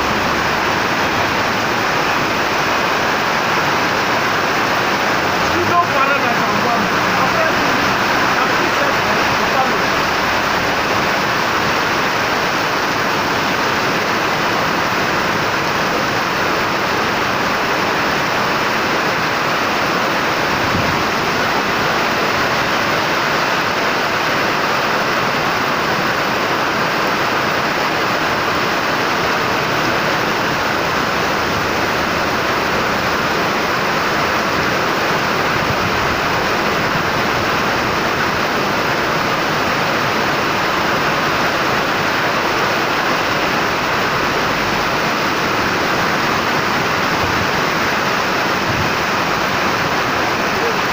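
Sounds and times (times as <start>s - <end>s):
heavy rain: 0.0s - 50.9s
runoff water flowing: 0.0s - 50.9s.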